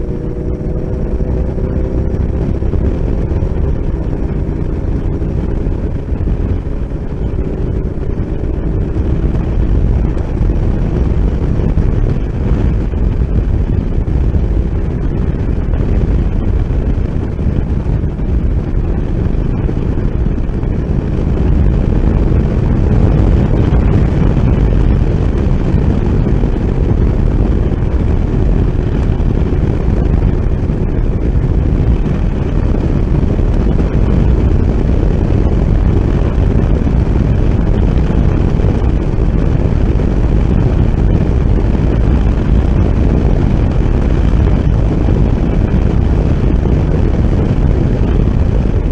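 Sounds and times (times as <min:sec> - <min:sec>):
motorcycle engine: 0:00.0 - 0:48.9
road noise: 0:00.0 - 0:48.9
wind rushing over microphone: 0:00.0 - 0:48.9.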